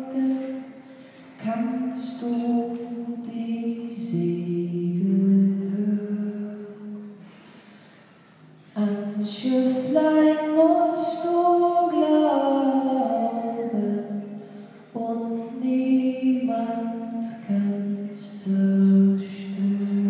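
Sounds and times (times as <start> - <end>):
woman singing: 0.0 - 7.2, 8.8 - 20.0.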